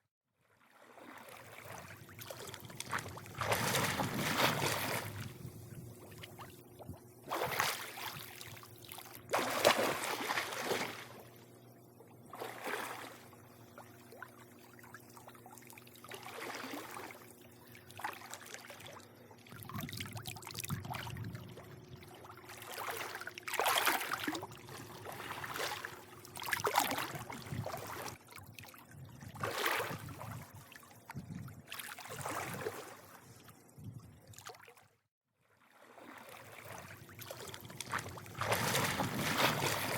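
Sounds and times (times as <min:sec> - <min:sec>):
pool water lapping and sloshing: 0:00.4 - 0:39.9
faint steady hum: 0:00.8 - 0:34.4.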